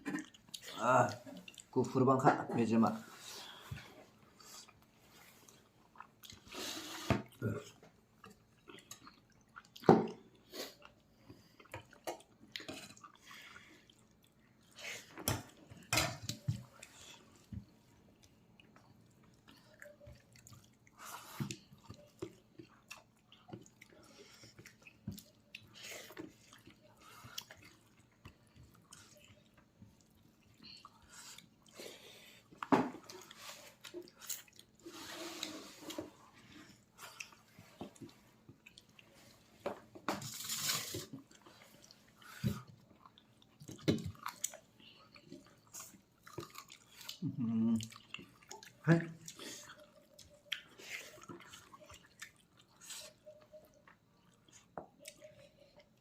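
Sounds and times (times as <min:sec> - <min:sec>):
person chewing meat: 0:03.4 - 0:06.5, 0:07.4 - 0:34.8, 0:36.5 - 0:39.4, 0:40.3 - 0:56.0.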